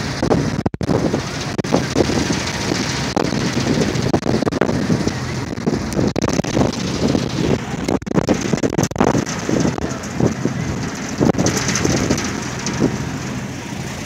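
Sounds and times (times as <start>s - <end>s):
boat engine drone: 0.0s - 14.0s
wind buffeting microphone: 0.0s - 14.0s.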